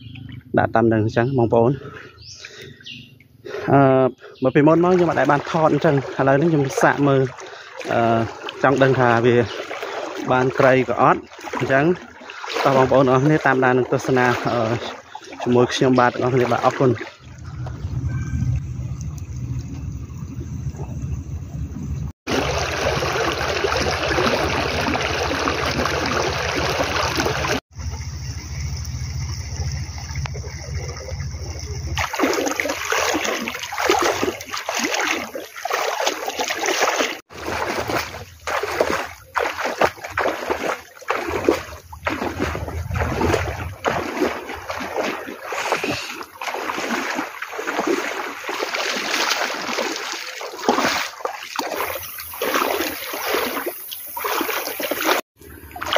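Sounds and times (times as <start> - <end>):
person wading through water: 1.6 - 21.0, 22.2 - 27.7, 29.0 - 55.9
floodwater rushing: 3.4 - 21.1, 22.2 - 55.9.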